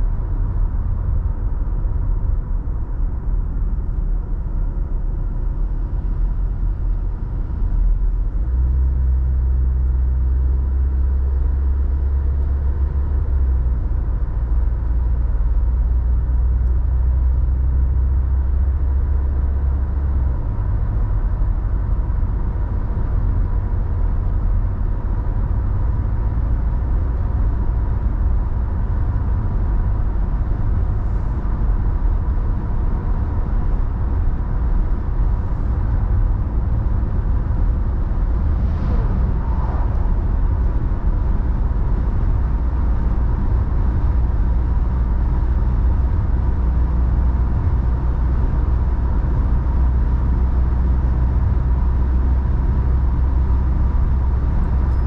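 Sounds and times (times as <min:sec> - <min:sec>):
car road rumble: 0:00.0 - 0:55.0
faint constant whine: 0:00.0 - 0:55.0.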